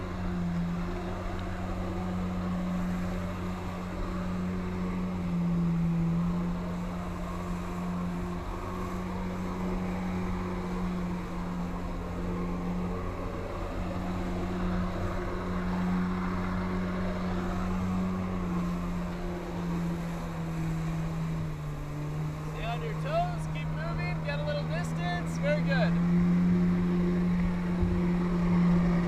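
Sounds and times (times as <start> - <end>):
jet ski engine at high revs: 0.0 - 29.0.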